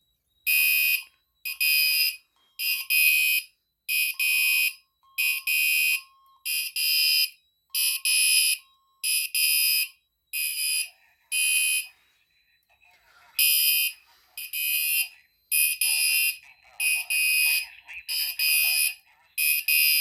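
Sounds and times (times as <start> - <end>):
fire alarm horn blasts: 0.4 - 12.0, 13.4 - 20.0.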